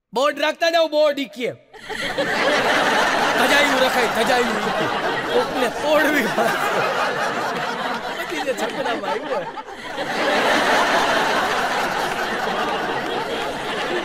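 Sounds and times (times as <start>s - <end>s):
audience laughing: 1.8s - 14.0s.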